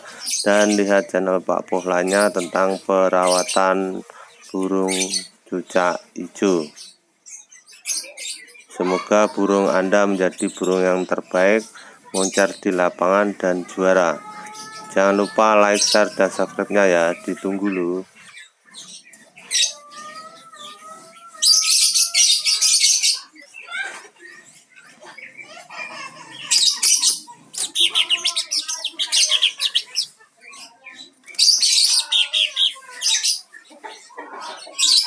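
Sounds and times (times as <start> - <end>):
bird chattering: 0.0 - 35.0.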